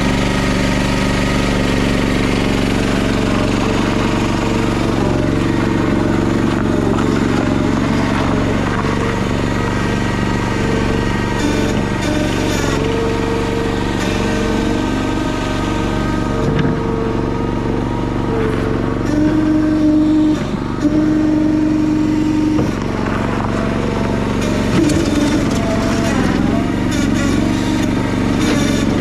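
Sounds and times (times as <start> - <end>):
engine running steadily: 0.0 - 29.0
higher whine: 0.0 - 29.0.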